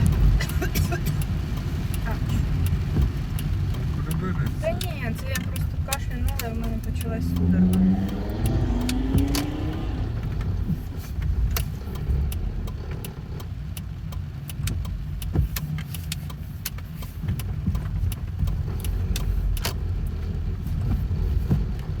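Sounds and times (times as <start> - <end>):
car rumble: 0.0 - 22.0
raindrops ticking on car body: 0.0 - 22.0.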